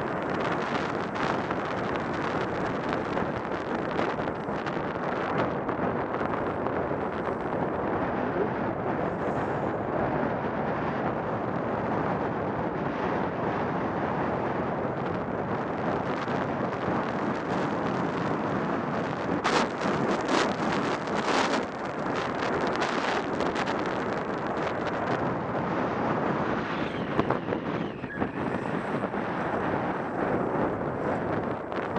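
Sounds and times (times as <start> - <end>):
wind rushing over microphone: 0.0 - 31.9.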